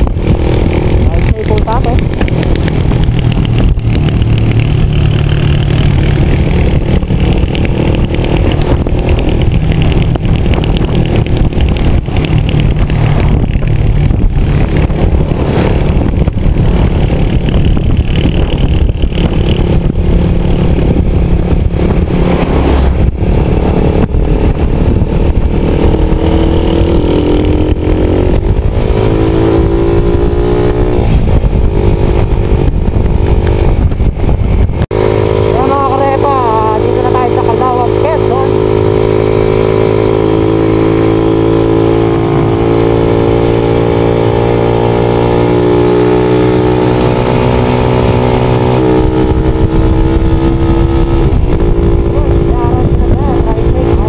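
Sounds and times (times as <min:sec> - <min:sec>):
engine speeding up: 0:00.0 - 0:54.0
vehicle rumbling on road: 0:00.0 - 0:54.0.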